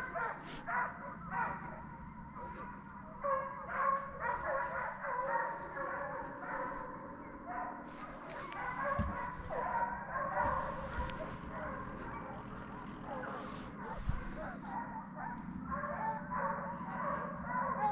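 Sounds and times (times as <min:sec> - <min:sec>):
hounds baying and yelping: 0:00.0 - 0:17.9.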